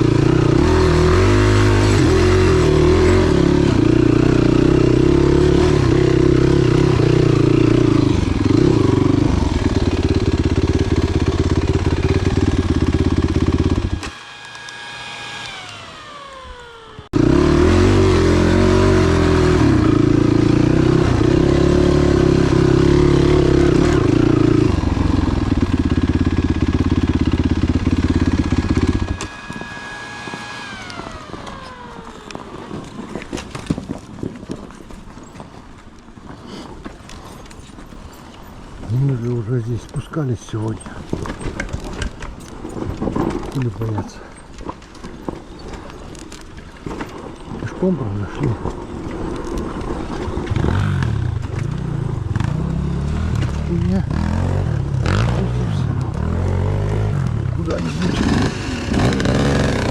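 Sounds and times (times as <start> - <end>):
motorcycle engine under load: 0.0 - 59.9.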